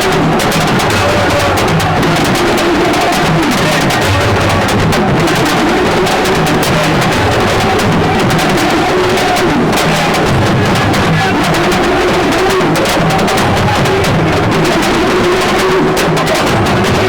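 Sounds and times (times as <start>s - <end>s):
dense fast drumming: 0.0s - 17.0s.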